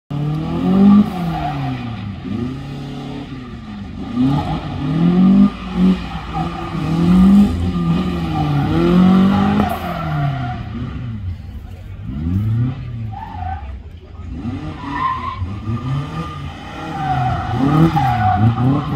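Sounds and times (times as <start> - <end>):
car engine revving: 0.1 - 18.9.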